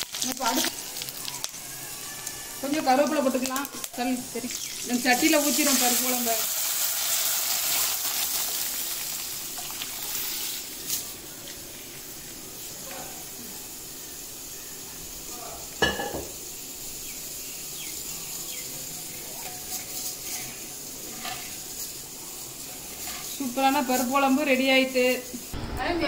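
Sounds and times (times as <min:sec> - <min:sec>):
spices sizzling in oil: 0:00.0 - 0:25.6.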